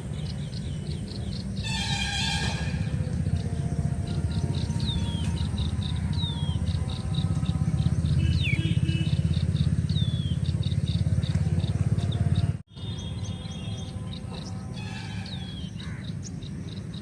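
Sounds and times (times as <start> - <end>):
engine running with low pulse: 0.0 - 17.0.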